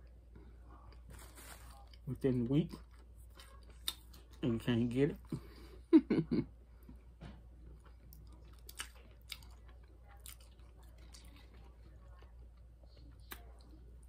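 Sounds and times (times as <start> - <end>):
faint chewing: 0.0 - 5.7, 6.8 - 14.0.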